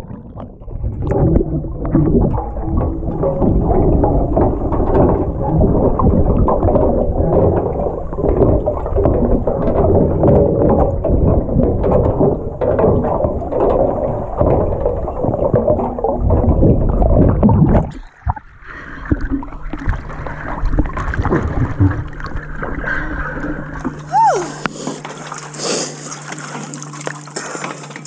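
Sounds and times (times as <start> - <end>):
steady low hum: 0.0 - 28.0
underwater rumble: 0.0 - 28.0
water splashing and sloshing: 0.0 - 28.0.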